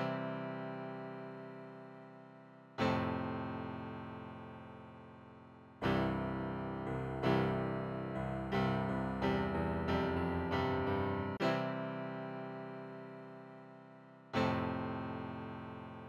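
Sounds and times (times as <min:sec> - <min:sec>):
piano-like keyboard chords: 0:00.0 - 0:16.0.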